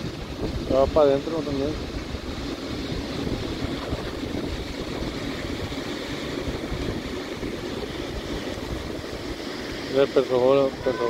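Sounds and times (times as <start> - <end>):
river water rushing: 0.0 - 11.0
wind buffeting microphone: 0.0 - 11.0.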